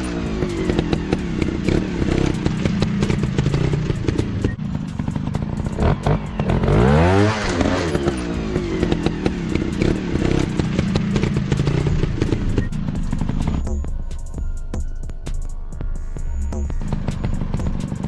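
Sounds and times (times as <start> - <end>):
motorcycle engine revving: 0.0 - 15.3, 15.9 - 18.0.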